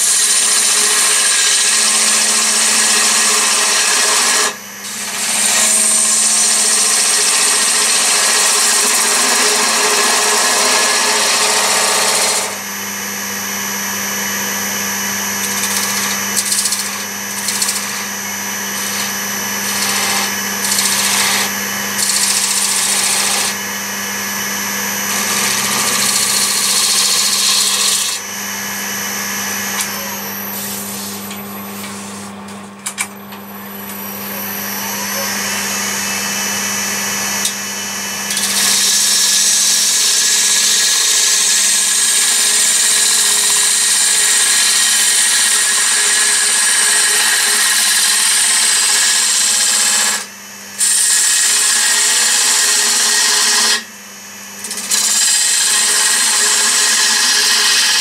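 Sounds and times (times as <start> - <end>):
turning tool cutting wood: 0.0 - 12.8, 14.2 - 32.7, 33.9 - 53.9, 54.5 - 58.0
lathe motor hum: 0.1 - 58.0.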